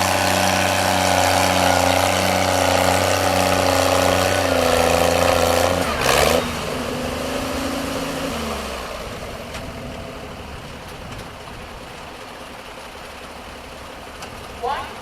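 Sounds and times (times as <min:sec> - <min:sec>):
tractor engine throttling back: 0:00.0 - 0:15.0.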